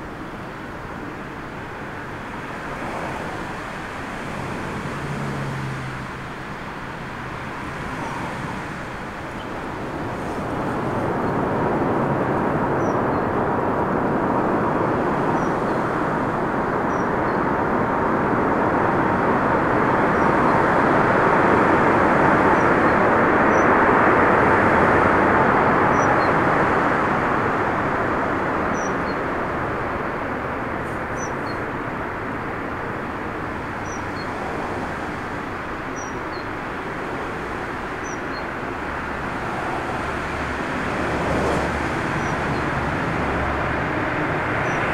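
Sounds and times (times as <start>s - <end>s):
wind rumble on microphone: 0.0s - 44.9s
jet engines roaring: 0.7s - 44.9s.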